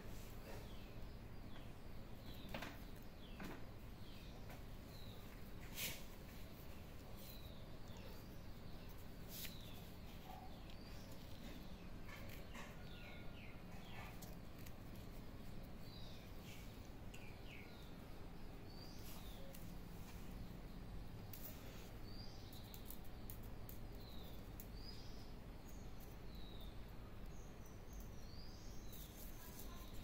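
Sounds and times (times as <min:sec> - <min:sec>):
faint background noise: 0:00.0 - 0:30.0
small birds chirping: 0:00.0 - 0:30.0.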